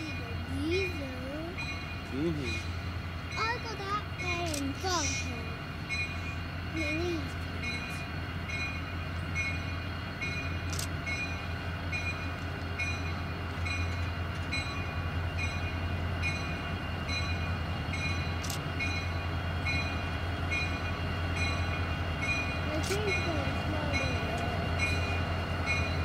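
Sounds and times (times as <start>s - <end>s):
diesel locomotive engine rumbling: 0.0s - 26.0s
locomotive bell ringing: 0.0s - 26.0s.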